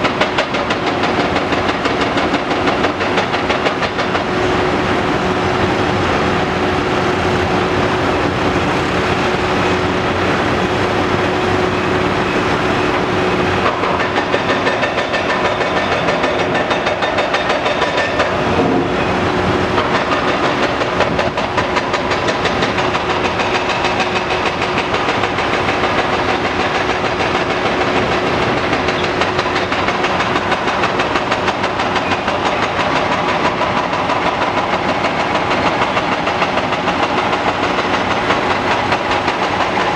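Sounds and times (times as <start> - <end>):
diesel engine under load: 0.0 - 39.9
engine whine: 0.0 - 39.9.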